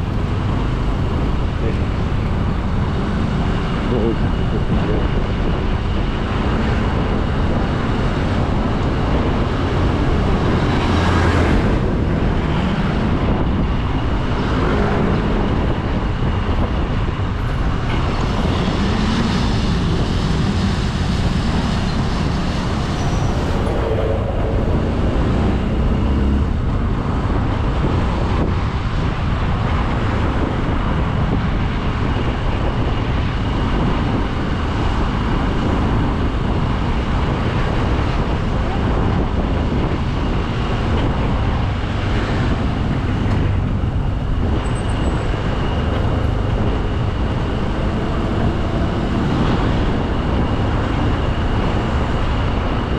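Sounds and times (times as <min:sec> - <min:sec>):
road and traffic noise: 0:00.0 - 0:52.9.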